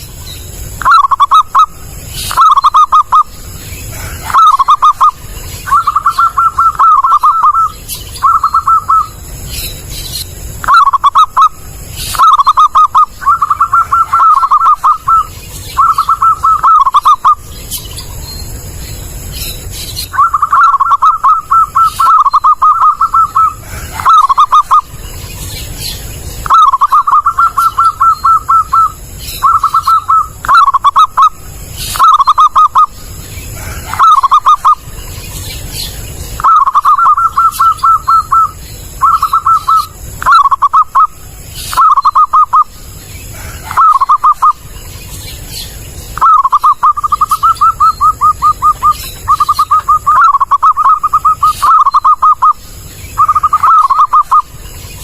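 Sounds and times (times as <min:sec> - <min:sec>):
dove cooing: 0:00.7 - 0:09.7, 0:10.6 - 0:17.8, 0:19.6 - 0:44.8, 0:46.2 - 0:54.6.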